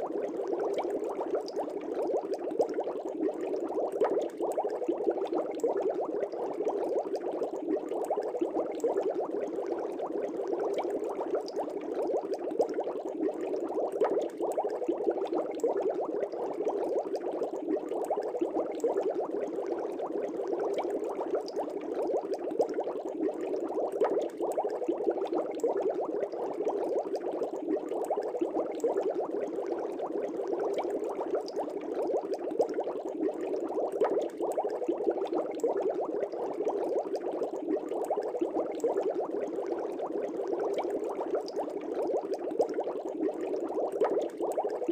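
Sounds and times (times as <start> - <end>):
aquarium air bubbles burbling: 0.0 - 44.9.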